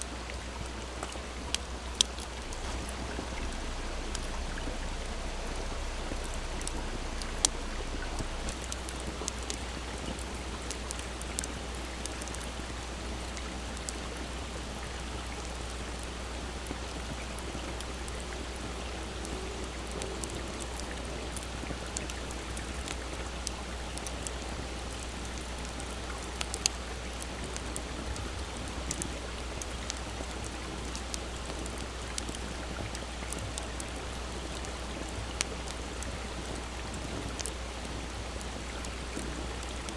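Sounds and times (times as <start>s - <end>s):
campfire crackling and popping: 0.0s - 39.9s
small stream rushing: 0.0s - 39.9s.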